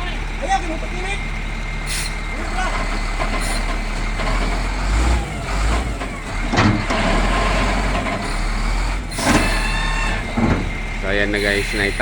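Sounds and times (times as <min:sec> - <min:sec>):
wheel loader diesel engine: 0:00.0 - 0:12.0.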